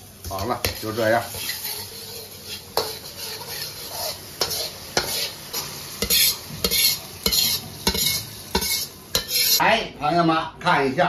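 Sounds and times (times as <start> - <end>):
metal ladle scraping a wok: 0.7 - 9.6.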